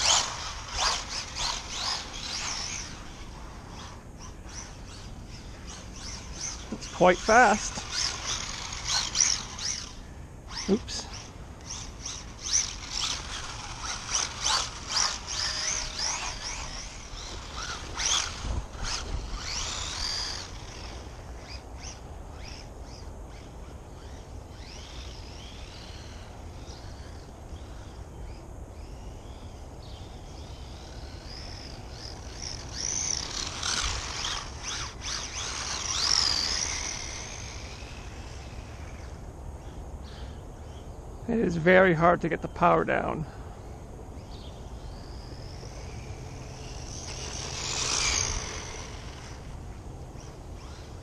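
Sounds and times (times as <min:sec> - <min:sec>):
rc car motor whining: 0:00.0 - 0:40.8, 0:43.6 - 0:51.0.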